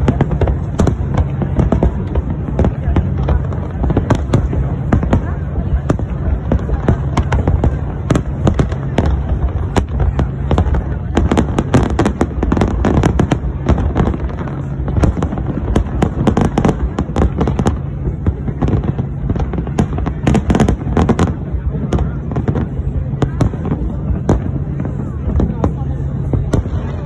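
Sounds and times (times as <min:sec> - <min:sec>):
fireworks bursting: 0:00.0 - 0:27.0
low rumble: 0:00.0 - 0:27.0.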